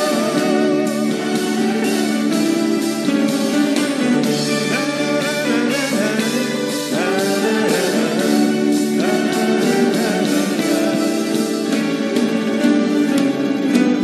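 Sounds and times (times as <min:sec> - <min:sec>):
guitar melody with bent notes: 0:00.0 - 0:14.0
live band playing: 0:00.0 - 0:14.0.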